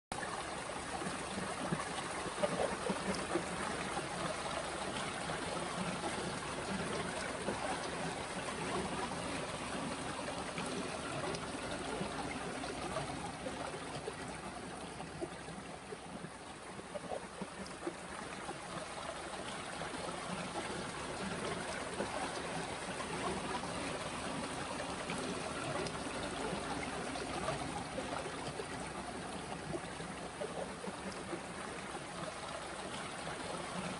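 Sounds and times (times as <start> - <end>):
stream water trickling: 0.1 - 33.9.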